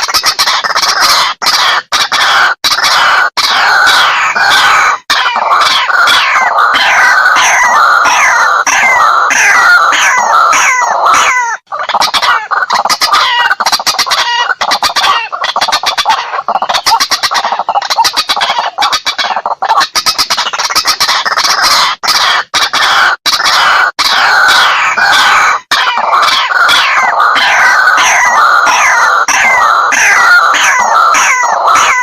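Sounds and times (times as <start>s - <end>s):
waterhen calling harsh notes: 0.0s - 32.0s.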